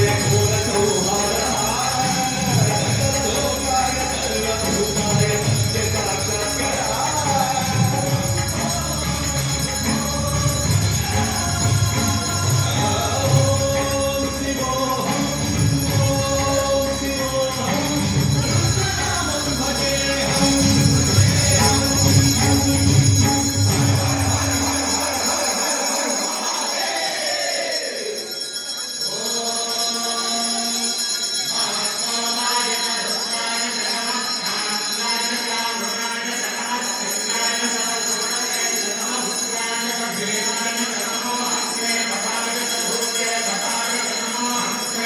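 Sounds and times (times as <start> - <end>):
handbell ringing: 0.0 - 45.0
music: 0.0 - 45.0.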